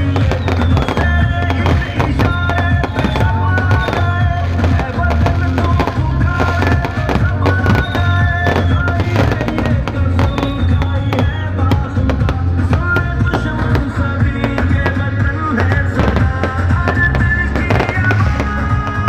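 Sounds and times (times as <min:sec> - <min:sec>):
fireworks banging and crackling: 0:00.0 - 0:19.0
music with steady bass line: 0:00.0 - 0:19.0.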